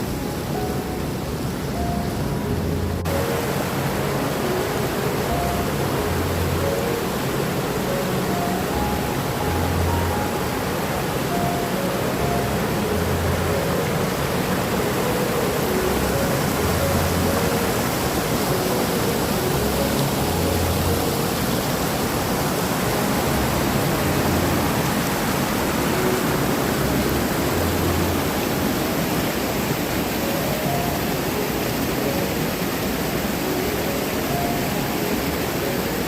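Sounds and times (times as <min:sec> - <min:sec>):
faint background music: 0:00.0 - 0:36.0
waterfall rushing: 0:00.0 - 0:36.0.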